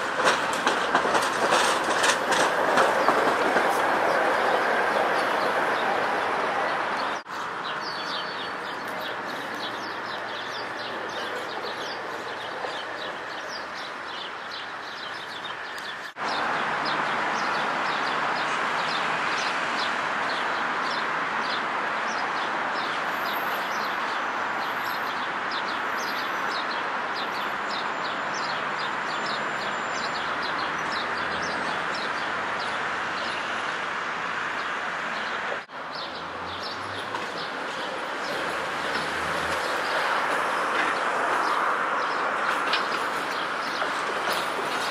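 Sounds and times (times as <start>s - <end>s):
distant street traffic hum: 0.0s - 44.9s.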